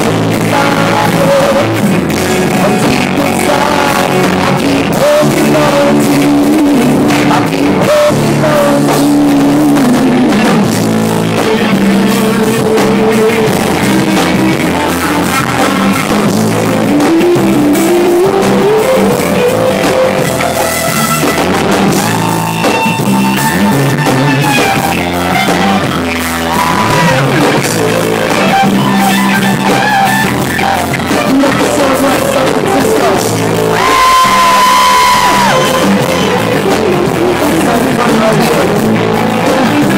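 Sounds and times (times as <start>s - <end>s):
electric guitar melody sliding: 0.0s - 39.9s
live rock band playing: 0.0s - 39.9s.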